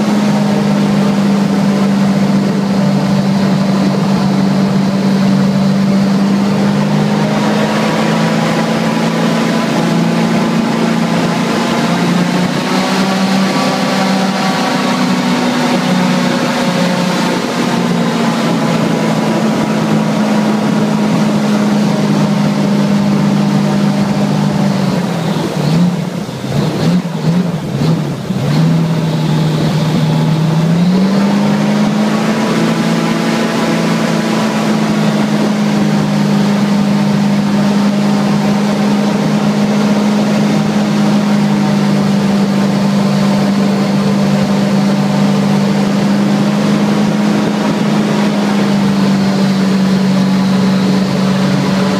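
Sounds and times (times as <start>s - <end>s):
airboat engine and propeller drone: 0.0s - 51.9s.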